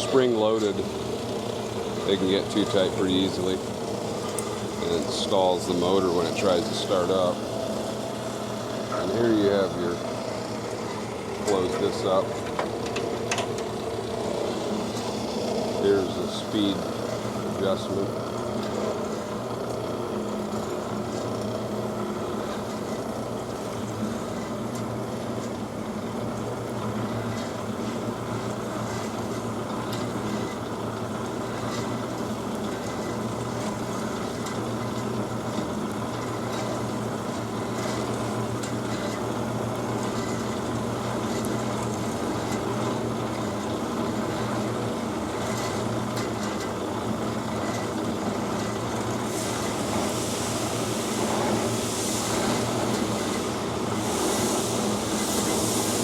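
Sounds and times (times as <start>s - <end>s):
band saw motor and blade hum: 0.0s - 56.0s.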